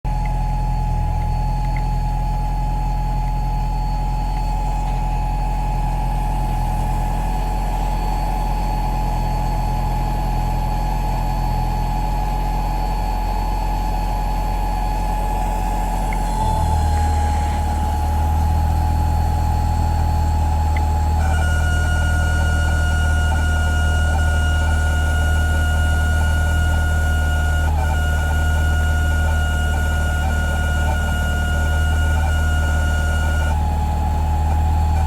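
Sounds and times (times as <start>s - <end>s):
electric fuel pump whine: 0.1s - 35.0s.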